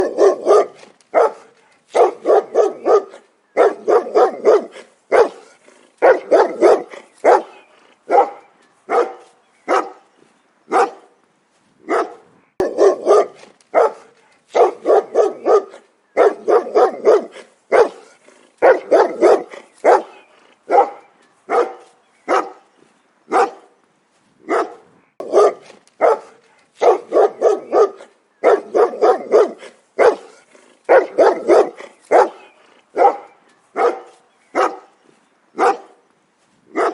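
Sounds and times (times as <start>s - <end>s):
dog barking: 0.0s - 10.0s, 10.7s - 11.1s, 11.9s - 22.7s, 23.3s - 23.7s, 24.5s - 35.0s, 35.6s - 36.0s.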